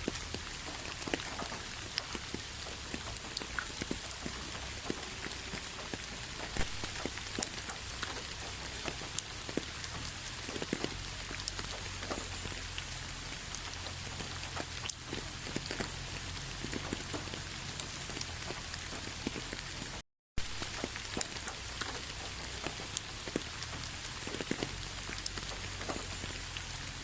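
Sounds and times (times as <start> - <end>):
hiss of falling rain: 0.0 - 27.0
raindrops pattering on a surface: 0.0 - 27.0.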